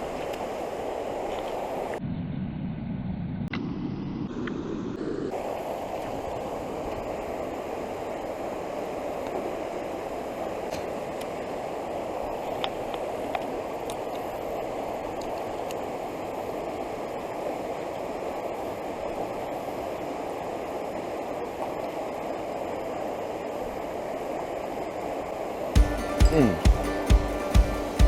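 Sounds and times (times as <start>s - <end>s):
floodwater rushing in a creek: 0.0s - 2.0s, 5.3s - 28.0s.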